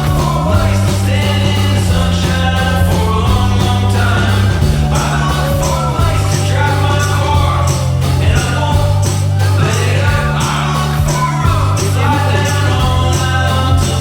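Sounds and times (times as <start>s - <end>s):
pop song with steady beat: 0.0s - 14.0s.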